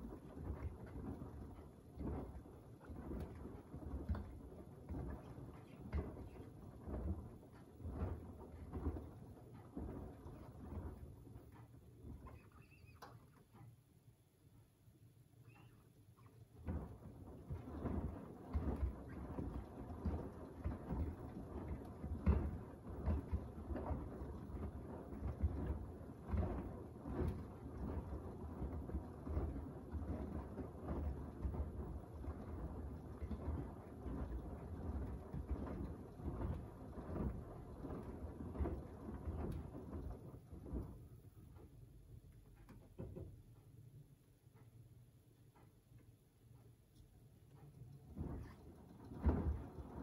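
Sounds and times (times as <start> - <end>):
washing machine drum sloshing: 0.0 - 13.7, 15.4 - 43.5, 47.7 - 50.0.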